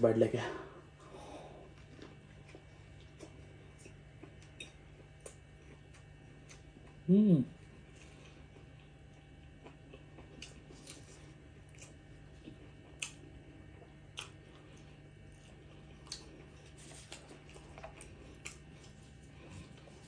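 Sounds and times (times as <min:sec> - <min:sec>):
low steady hum: 0:00.0 - 0:20.0
chewing crunches: 0:01.7 - 0:20.0.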